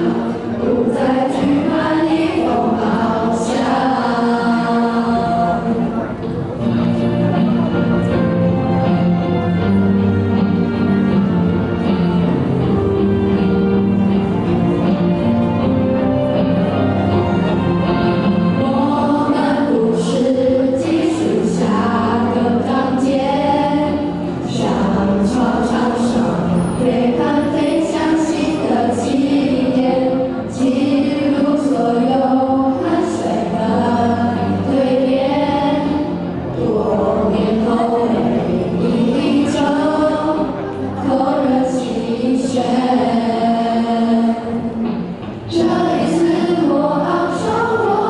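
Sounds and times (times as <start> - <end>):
children's choir singing: 0.0 - 48.0
musical accompaniment: 0.0 - 48.0.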